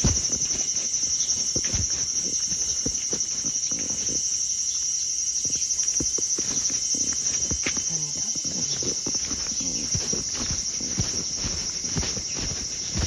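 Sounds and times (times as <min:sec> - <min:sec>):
soft footsteps: 0:00.0 - 0:04.4, 0:05.4 - 0:13.0
insects calling: 0:00.0 - 0:13.0.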